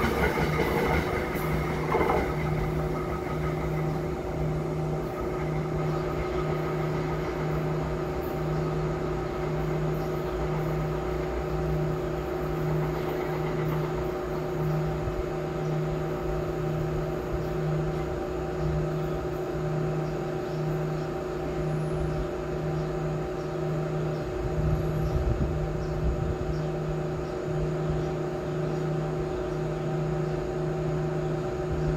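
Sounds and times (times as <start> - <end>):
steady mechanical hum: 0.0 - 31.9.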